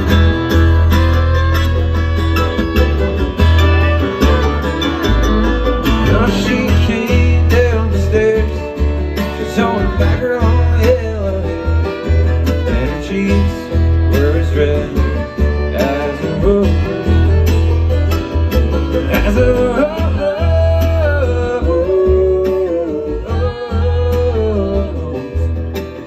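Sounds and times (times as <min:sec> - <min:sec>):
banjo: 0:00.0 - 0:26.0
bass line: 0:00.0 - 0:26.0
guitar: 0:00.0 - 0:26.0.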